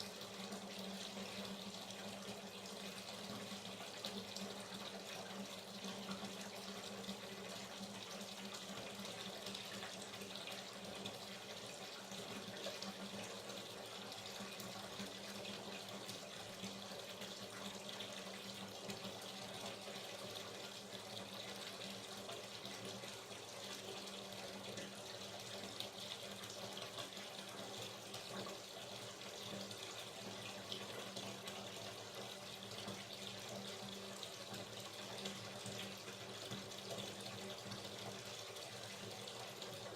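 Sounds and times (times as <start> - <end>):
tap water filling bathtub: 0.0 - 39.9.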